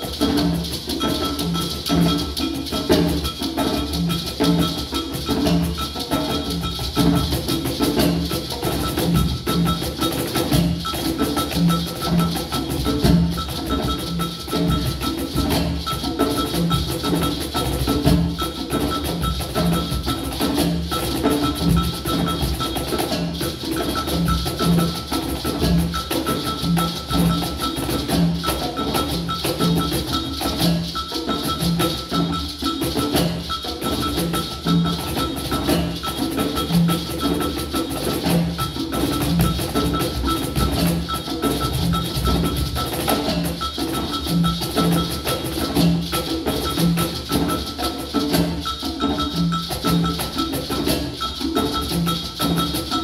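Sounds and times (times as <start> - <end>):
hand percussion groove: 0.0 - 53.0
mallet or keyboard part: 0.0 - 53.0.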